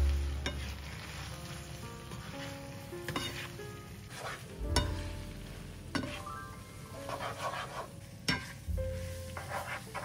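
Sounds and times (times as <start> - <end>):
background music with held notes: 0.0 - 10.0
soft scraping and sizzling: 0.0 - 10.0.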